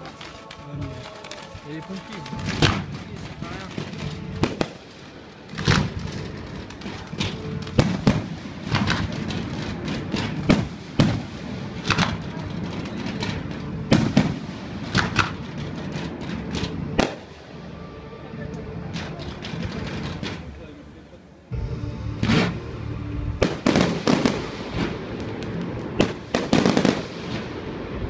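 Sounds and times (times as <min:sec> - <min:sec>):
fireworks bangs: 0:00.0 - 0:20.9, 0:22.2 - 0:28.0.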